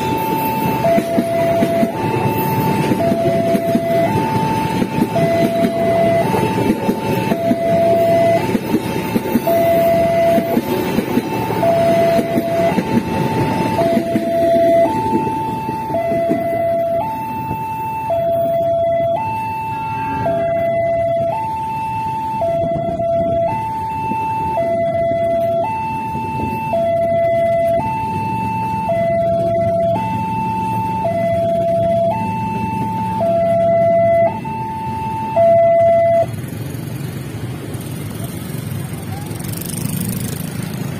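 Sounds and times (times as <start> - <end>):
level crossing two-tone alarm: 0.0 - 36.3
trains rumbling past: 0.0 - 40.9.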